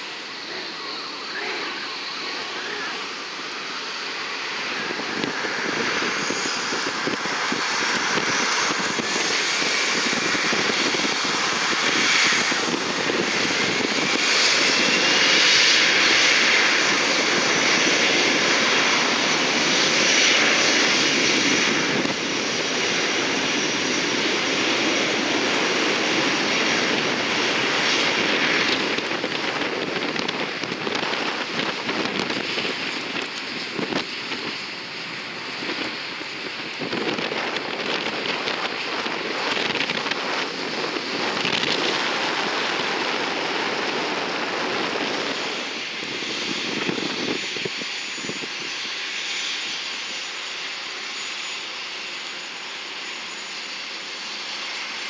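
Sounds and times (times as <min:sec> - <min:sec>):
jet engines passing by: 0:00.0 - 0:55.0.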